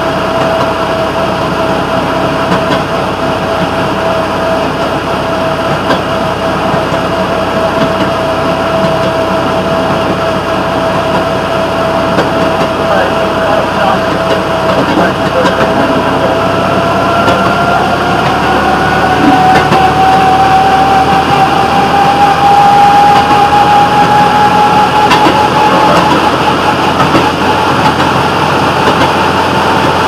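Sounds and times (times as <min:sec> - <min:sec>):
rail motorcar engine: 0:00.0 - 0:30.0
rising whine: 0:00.0 - 0:30.0
wheels on rails: 0:00.3 - 0:30.0.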